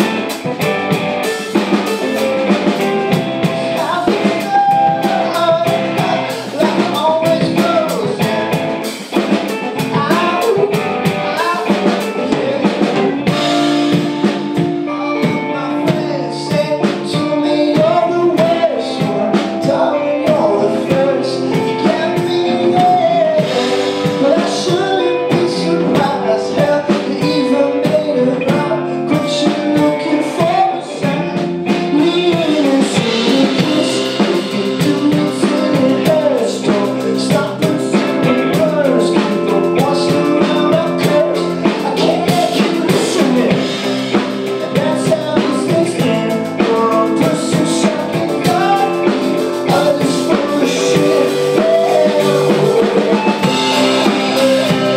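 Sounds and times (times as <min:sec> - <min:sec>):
rock band playing live: 0:00.0 - 0:54.9
man singing: 0:01.2 - 0:54.9.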